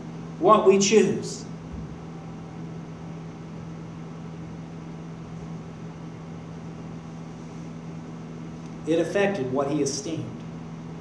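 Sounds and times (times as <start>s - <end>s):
air conditioning hum and hiss: 0.0s - 11.0s.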